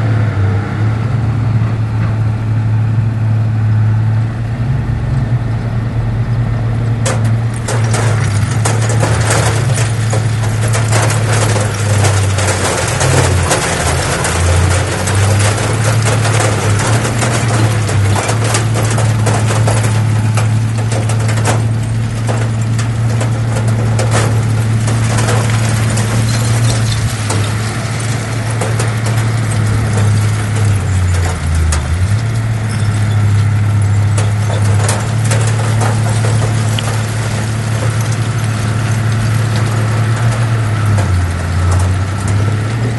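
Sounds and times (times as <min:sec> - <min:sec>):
heavy diesel engine running: 0:00.0 - 0:42.9
clicks and clanks: 0:07.0 - 0:42.9.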